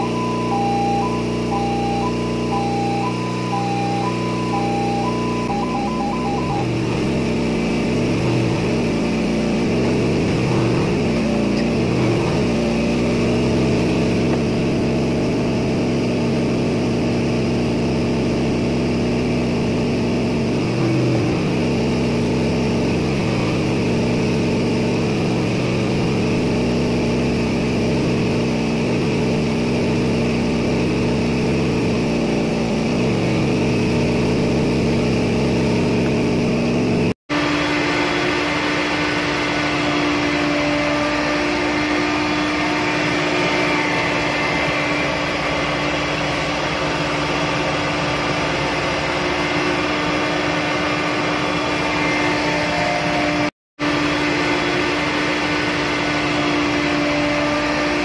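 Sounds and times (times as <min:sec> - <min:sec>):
engine room machinery hum: 0:00.0 - 0:58.0.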